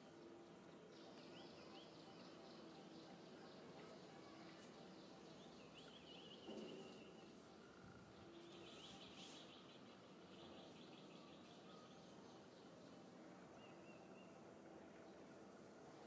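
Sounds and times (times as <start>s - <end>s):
faint outdoor hiss: 0.0s - 16.0s
faint high chirps: 1.0s - 14.5s.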